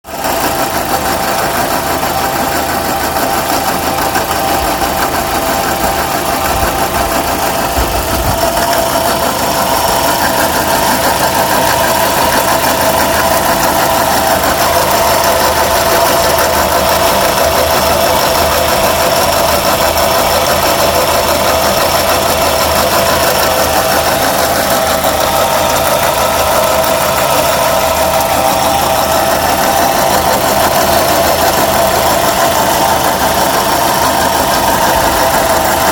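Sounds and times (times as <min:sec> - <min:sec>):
car engine running: 0:00.0 - 0:35.9
constant pitched whine: 0:00.4 - 0:35.9.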